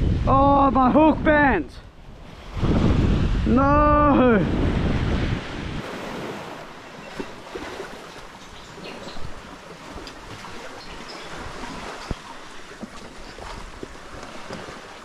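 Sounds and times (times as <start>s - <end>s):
wind on microphone: 0.0s - 15.0s
small waves washing onto beach: 1.9s - 15.0s.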